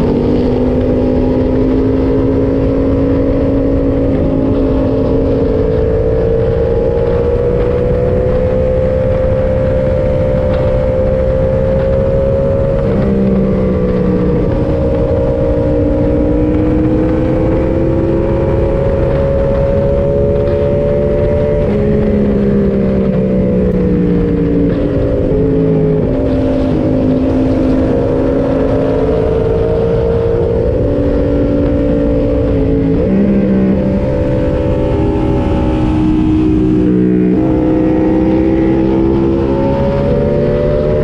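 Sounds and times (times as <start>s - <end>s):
motorcycle engine revving: 0.0s - 41.0s
wind rush: 0.0s - 41.0s.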